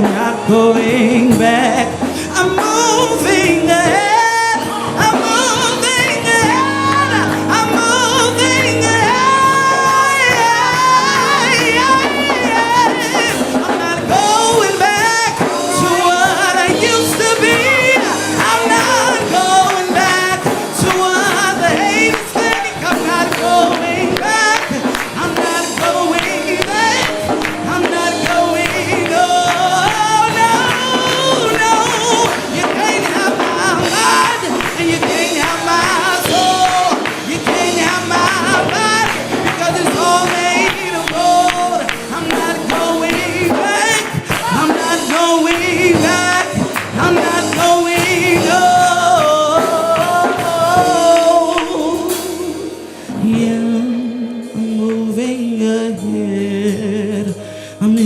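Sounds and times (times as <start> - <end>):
band with percussion: 0.0 - 58.0
man singing gospel: 0.0 - 58.0.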